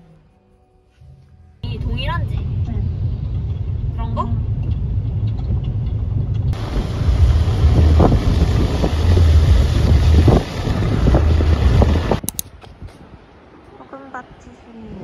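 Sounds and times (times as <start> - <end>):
wind buffeting microphone: 1.6 - 13.7
car road noise: 1.6 - 13.8.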